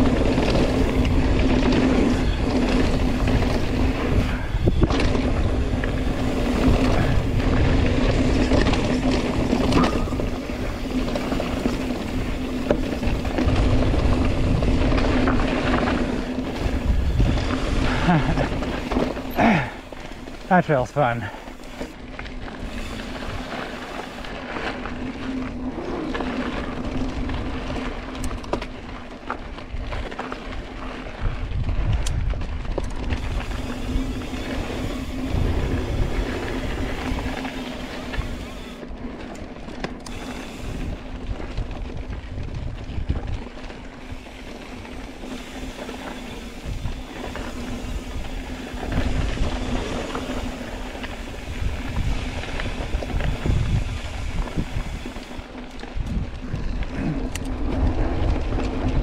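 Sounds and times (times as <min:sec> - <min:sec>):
bike tyres rattling on dirt: 0:00.0 - 0:59.0
wind rumbling on microphone: 0:00.0 - 0:59.0.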